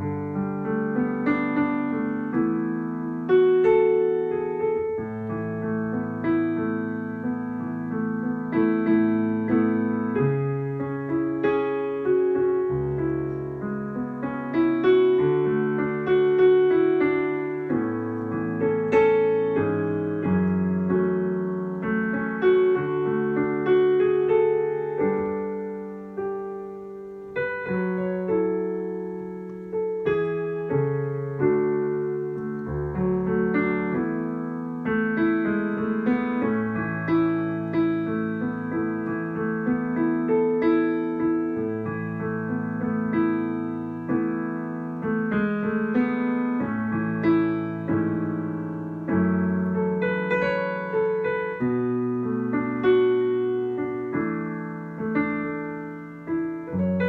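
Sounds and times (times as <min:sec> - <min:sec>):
slow gentle solo piano: 0:00.0 - 0:57.0.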